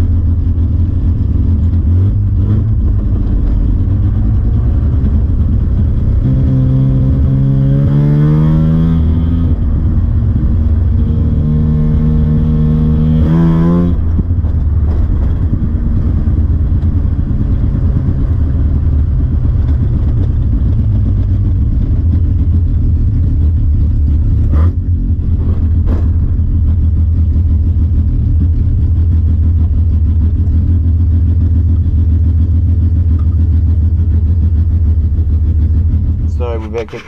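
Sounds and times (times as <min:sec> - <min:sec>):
van engine rumble: 0:00.0 - 0:37.0.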